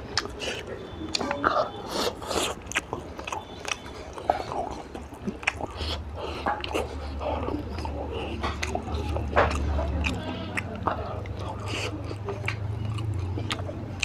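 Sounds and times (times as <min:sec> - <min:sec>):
sharp mouth clicks: 0:00.0 - 0:14.0
wet chewing and lip smacks: 0:00.0 - 0:14.0.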